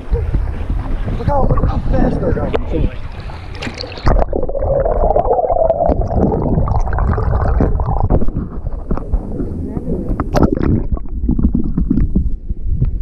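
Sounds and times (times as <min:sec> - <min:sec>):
water gurgling and sloshing: 0:00.0 - 0:13.0.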